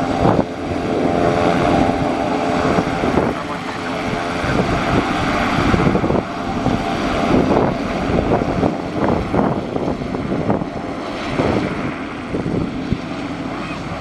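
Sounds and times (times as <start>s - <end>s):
turboprop engine drone: 0.0s - 14.0s.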